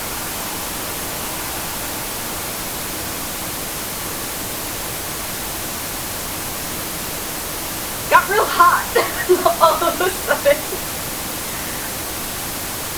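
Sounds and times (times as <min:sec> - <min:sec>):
white noise static hiss: 0:00.0 - 0:12.9.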